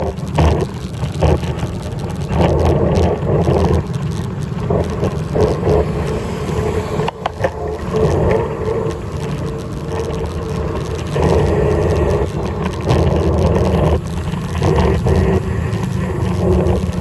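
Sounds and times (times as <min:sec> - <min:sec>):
faint hum: 0:00.0 - 0:17.0
road noise: 0:00.0 - 0:17.0
wind rushing over microphone: 0:00.0 - 0:17.0.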